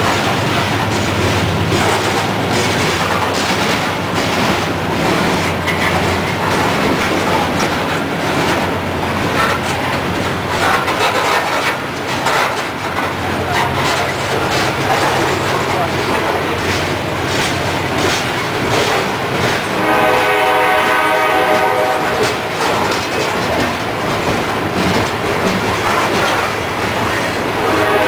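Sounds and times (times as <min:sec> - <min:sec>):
train rumble: 0:00.0 - 0:28.0
train wheels clacking over rail joints: 0:00.0 - 0:28.0.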